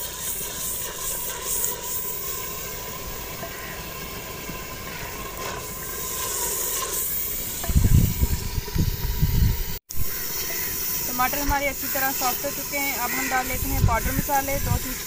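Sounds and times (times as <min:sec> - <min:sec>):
wood fire hissing and crackling: 0:00.0 - 0:15.0.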